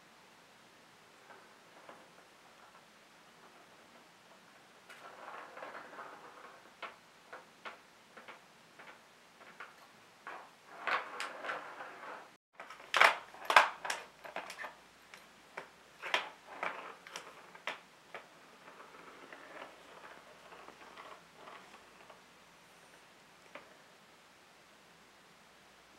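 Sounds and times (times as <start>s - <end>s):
plastic ball rolling rumble: 1.1s - 24.0s.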